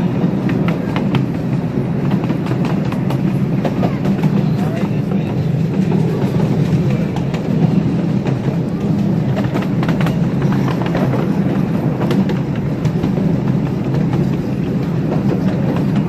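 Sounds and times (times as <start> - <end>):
train rumbling on track: 0.0 - 16.0
wheels clicking on rails: 0.0 - 16.0.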